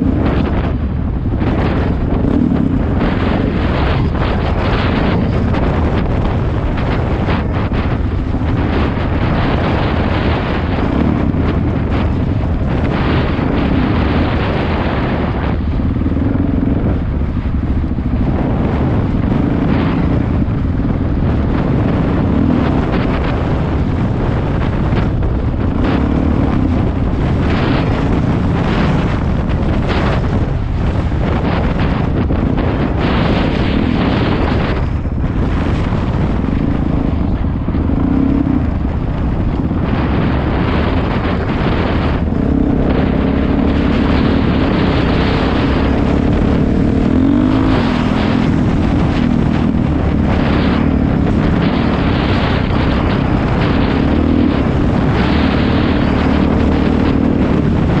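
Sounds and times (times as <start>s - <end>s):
dirt bike engine: 0.0s - 58.0s
wind buffeting microphone: 0.0s - 58.0s.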